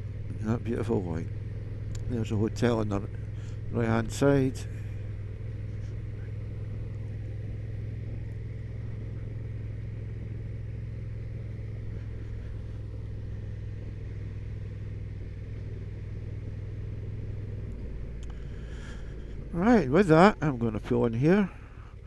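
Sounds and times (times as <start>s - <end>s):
motorcycle engine cruising: 0.0s - 22.0s
road and wind noise: 0.0s - 22.0s.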